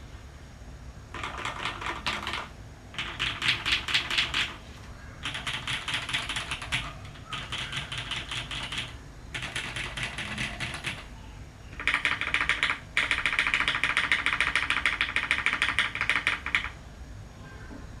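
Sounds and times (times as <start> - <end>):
mechanical keyboard typing: 1.1 - 4.6, 5.2 - 11.1, 11.7 - 16.8.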